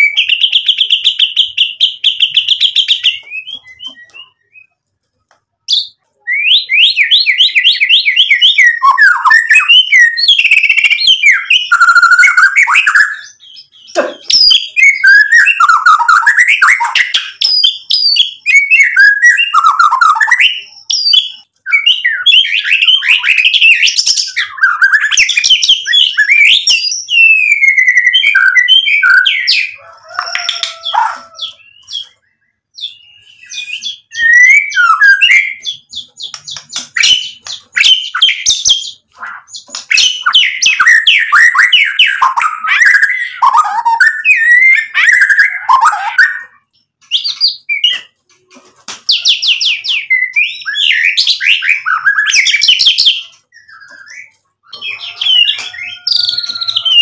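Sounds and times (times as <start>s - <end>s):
songbird singing loudly: 5.7s - 48.1s, 49.1s - 57.0s.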